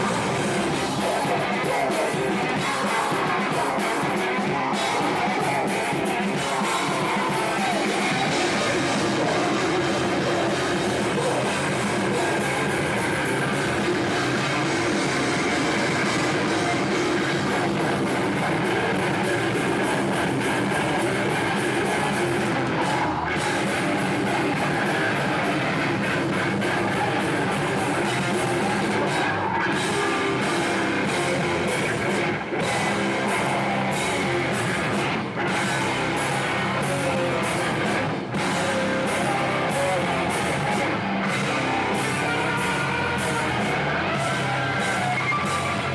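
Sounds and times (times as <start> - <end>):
distorted electric guitars: 0.0 - 45.9
drum kit: 0.0 - 45.9.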